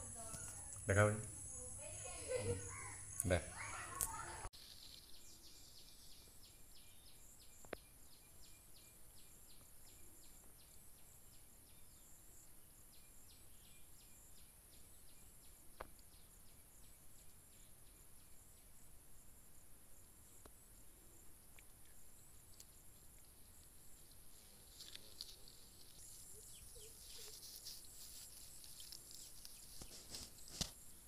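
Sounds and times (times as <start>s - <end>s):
constant high hiss: 0.0s - 31.0s
insect chirping: 0.0s - 31.0s.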